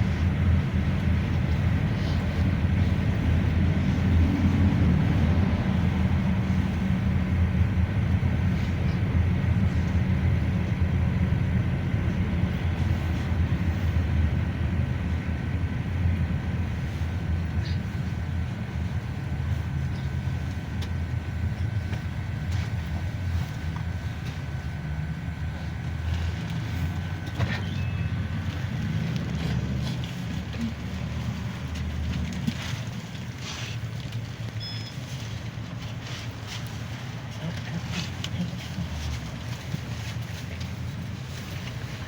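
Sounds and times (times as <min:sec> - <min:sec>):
engine and road rumble: 0:00.0 - 0:42.0.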